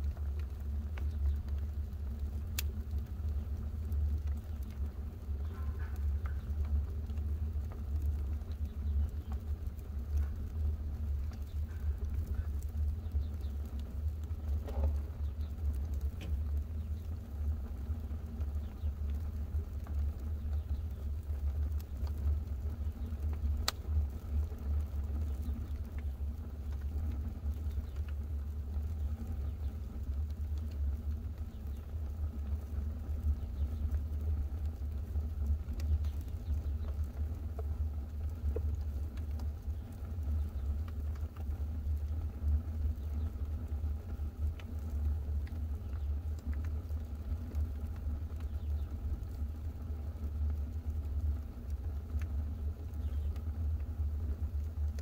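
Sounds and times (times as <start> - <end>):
fire crackling: 0.0 - 55.0
fire rumbling in wood stove: 0.0 - 55.0.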